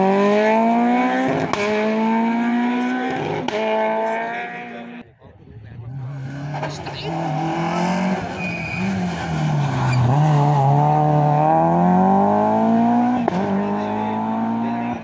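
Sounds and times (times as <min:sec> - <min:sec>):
rally car engine revving: 0:00.0 - 0:05.0, 0:05.6 - 0:15.0.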